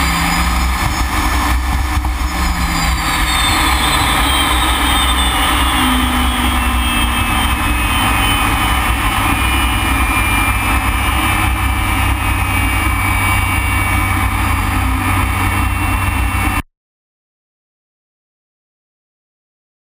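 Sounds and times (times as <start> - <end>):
jet engine rush and whine: 0.0 - 16.6.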